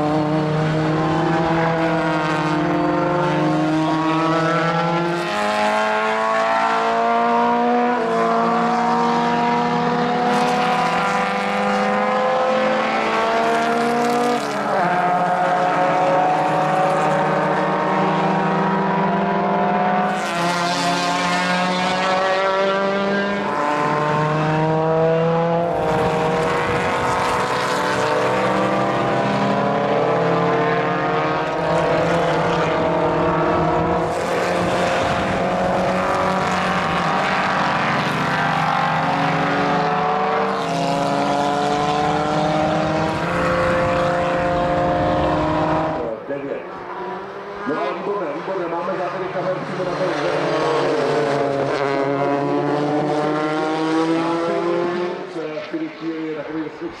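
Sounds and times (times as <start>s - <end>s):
racing cars accelerating: 0.0s - 57.0s.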